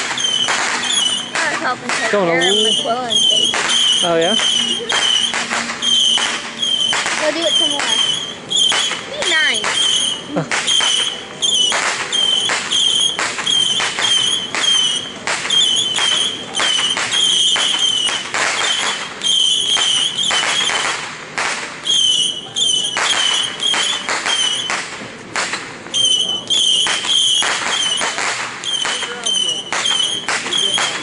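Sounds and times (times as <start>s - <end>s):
fireworks popping and banging: 0.0s - 31.0s.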